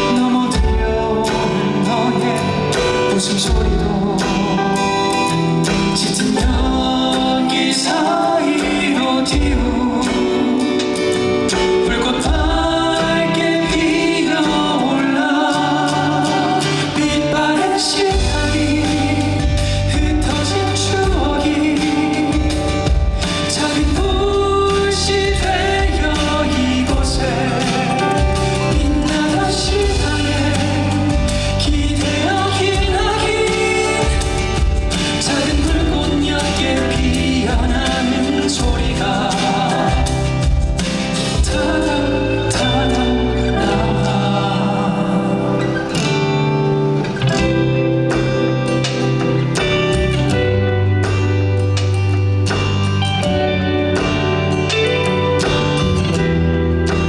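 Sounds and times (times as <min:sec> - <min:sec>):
person singing: 0:00.0 - 0:51.9
bass: 0:00.0 - 0:57.0
strummed acoustic guitar: 0:00.0 - 0:57.0.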